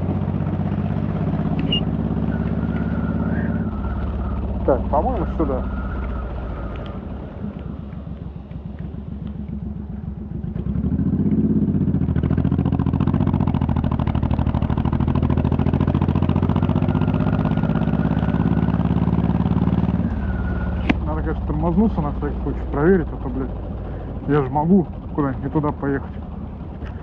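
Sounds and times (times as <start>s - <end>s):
motorcycle engine pulsing: 0.0s - 27.0s.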